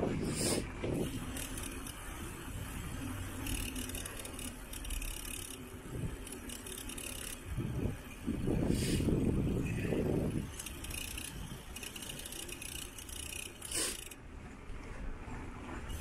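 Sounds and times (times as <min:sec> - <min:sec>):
bike tyres rolling on rough ground: 0:00.0 - 0:13.7
bike clicks and rattles: 0:00.0 - 0:14.2.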